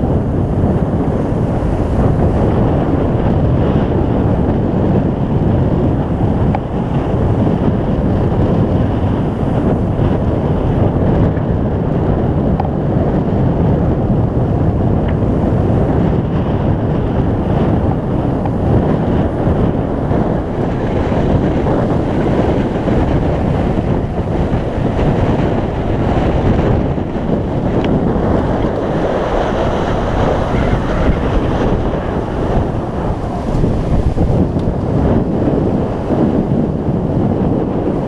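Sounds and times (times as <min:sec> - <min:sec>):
breaking waves and wake water: 0:00.0 - 0:38.0
wind buffeting microphone: 0:00.0 - 0:38.0.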